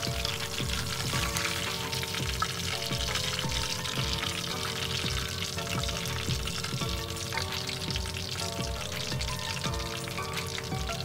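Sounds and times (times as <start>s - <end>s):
background music with a beat: 0.0s - 11.0s
chicken sizzling in oil: 0.0s - 11.0s.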